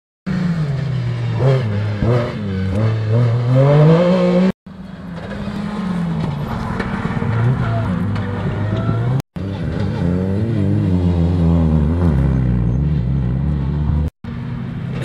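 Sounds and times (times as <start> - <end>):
rally car engines revving: 0.3 - 14.1.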